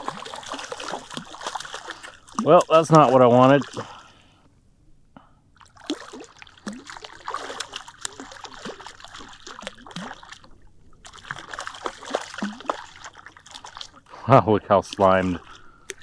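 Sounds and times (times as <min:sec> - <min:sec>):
water splashing beside kayak: 0:00.0 - 0:04.3, 0:05.5 - 0:16.0.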